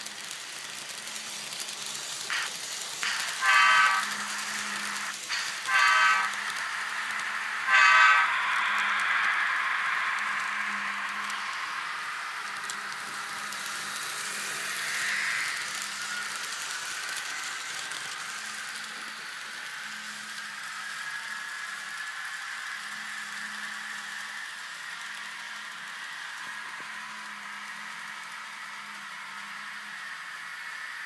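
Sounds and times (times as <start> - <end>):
model train motor whirring: 0.0 - 31.0.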